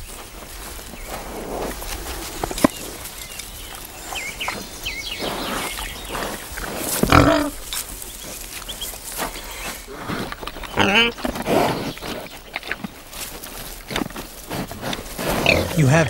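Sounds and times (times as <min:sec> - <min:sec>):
pig snuffling and grunting: 0:00.0 - 0:16.0
snout rooting in soil: 0:00.0 - 0:16.0.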